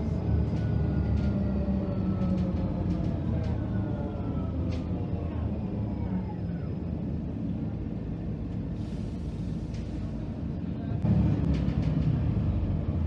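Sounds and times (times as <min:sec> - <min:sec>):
bus drivetrain rumble: 0:00.0 - 0:13.0.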